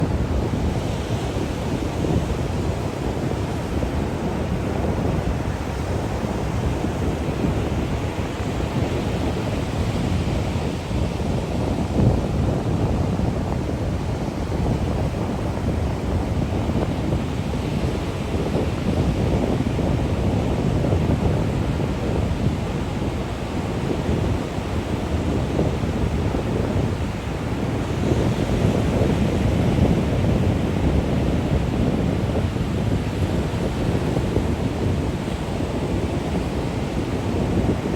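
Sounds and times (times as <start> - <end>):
wind rumbling on microphone: 0.0 - 37.9.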